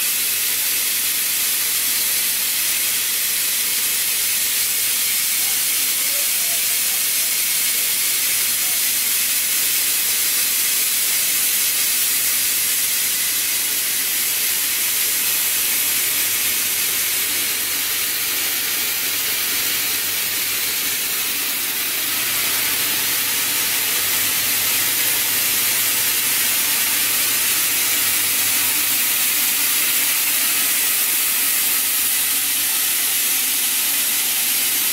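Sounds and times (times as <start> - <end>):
spinning machine high-pitched hiss: 0.0 - 34.9.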